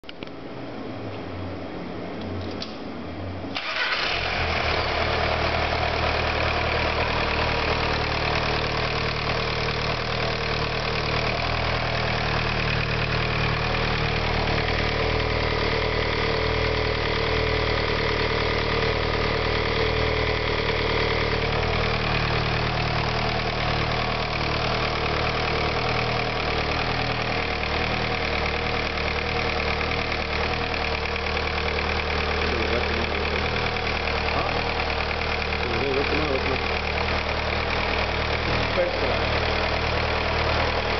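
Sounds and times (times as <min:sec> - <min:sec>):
car engine starting and idling: 0:00.0 - 0:40.9.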